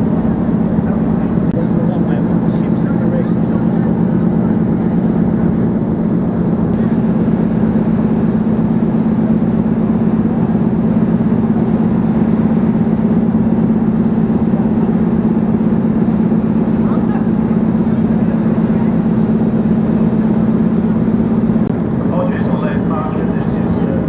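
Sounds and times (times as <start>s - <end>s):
ferry engines humming: 0.0s - 24.0s.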